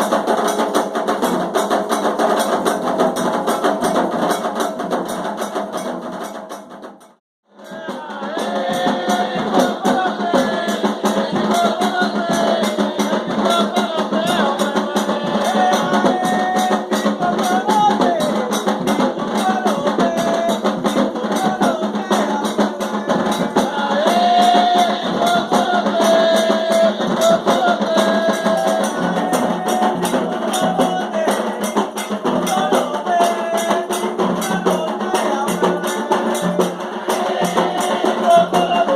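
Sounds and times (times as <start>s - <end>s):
drums and percussion: 0.0s - 38.9s
voices singing a chant: 7.5s - 38.9s.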